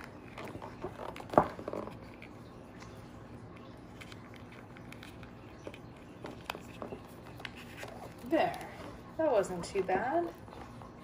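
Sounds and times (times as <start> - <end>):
soft rubbing: 0.0 - 11.0.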